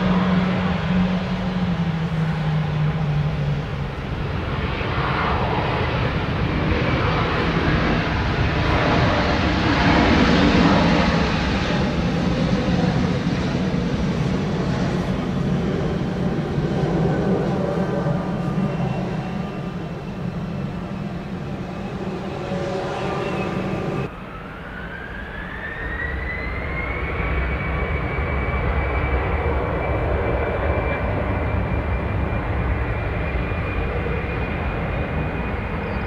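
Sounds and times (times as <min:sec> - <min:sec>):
jet engines spooling up: 0:00.0 - 0:36.0
jet taxiing with low hum: 0:00.0 - 0:36.0.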